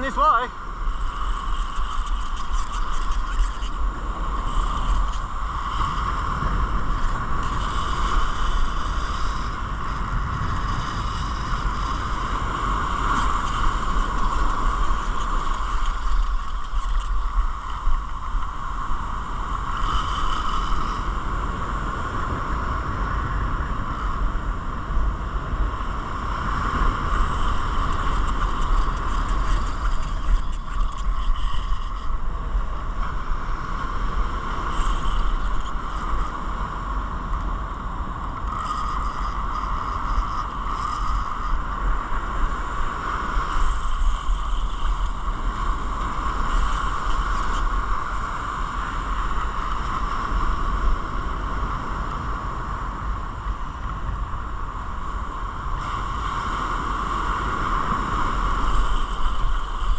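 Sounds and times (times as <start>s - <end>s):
surf washing up beach: 0.0s - 59.9s
wind buffeting microphone: 0.0s - 59.9s.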